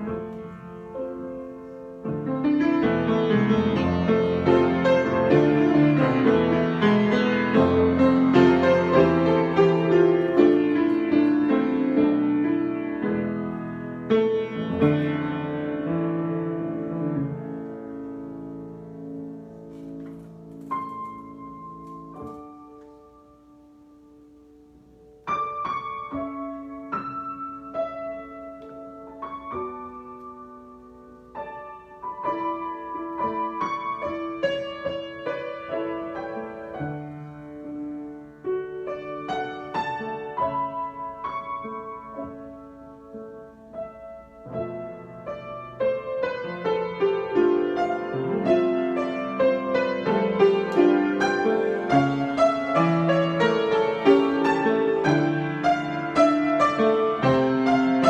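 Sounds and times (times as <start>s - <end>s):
solo piano improvisation: 0.0s - 58.0s.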